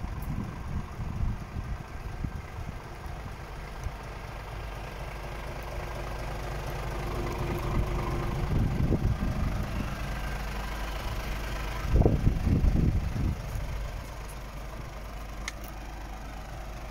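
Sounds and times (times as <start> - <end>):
diesel truck engine idling: 0.0 - 16.9.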